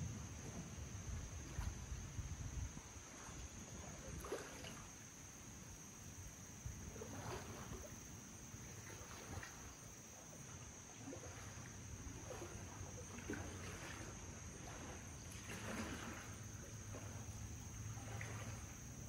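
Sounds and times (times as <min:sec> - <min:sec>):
kayak paddle splashes: 0:00.0 - 0:19.0.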